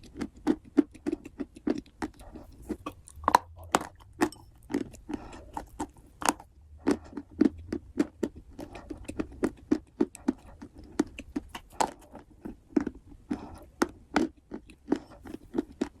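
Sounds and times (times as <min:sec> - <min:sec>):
chewing wet clay: 0:00.0 - 0:16.0.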